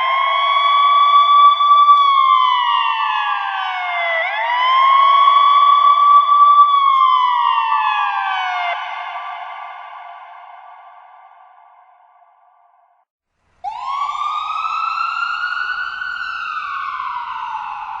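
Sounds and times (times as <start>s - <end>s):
ambulance siren wailing: 0.0s - 11.1s, 13.6s - 18.0s.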